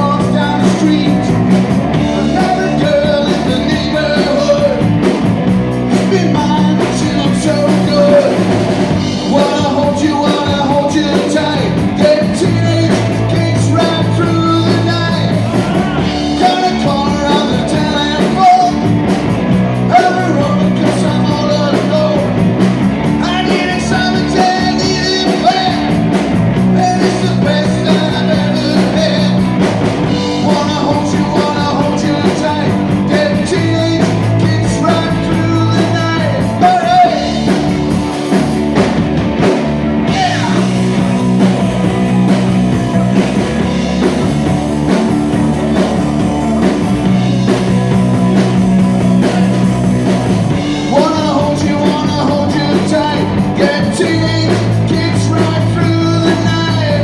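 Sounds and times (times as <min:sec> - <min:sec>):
person singing: 0:00.0 - 0:05.0, 0:05.9 - 0:18.9, 0:19.7 - 0:22.4, 0:23.1 - 0:26.0, 0:26.6 - 0:37.7, 0:40.1 - 0:57.0
live punk rock band: 0:00.0 - 0:57.0.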